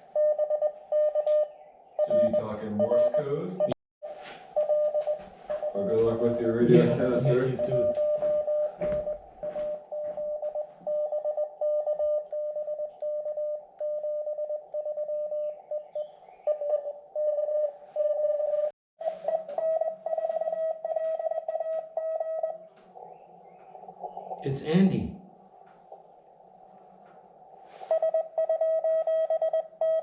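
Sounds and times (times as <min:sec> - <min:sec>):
morse code tone: 0:00.0 - 0:22.6, 0:27.8 - 0:30.0.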